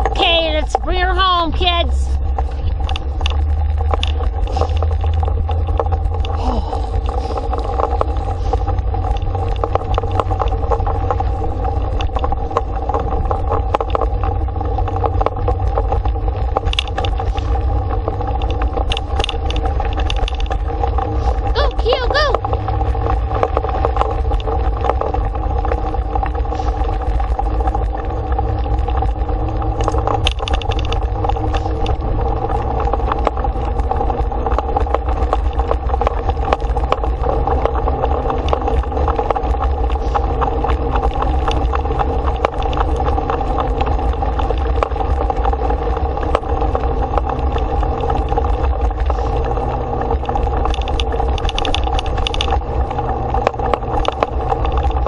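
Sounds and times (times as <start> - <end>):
steady hum: 0.0 - 55.0
tyres rumbling on dirt road: 0.0 - 55.0
wind buffeting microphone: 0.0 - 55.0.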